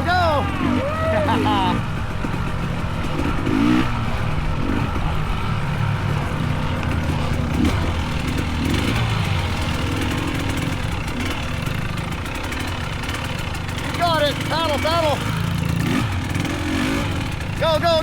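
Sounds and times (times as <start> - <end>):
dirt bike engines at low revs: 0.0 - 18.0.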